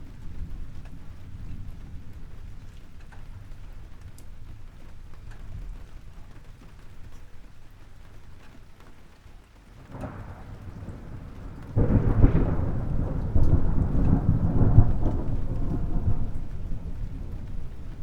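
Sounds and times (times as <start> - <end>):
thunder rumbling: 0.0 - 7.0, 9.8 - 18.0
rain falling: 0.0 - 18.0.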